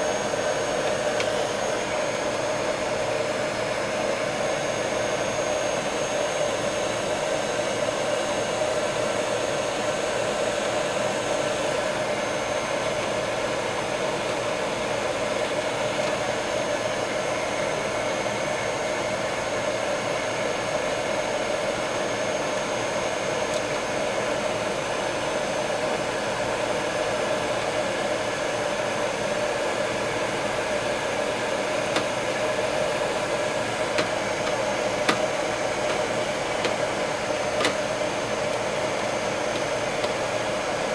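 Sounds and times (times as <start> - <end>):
hot-air blower rushing: 0.0 - 40.9.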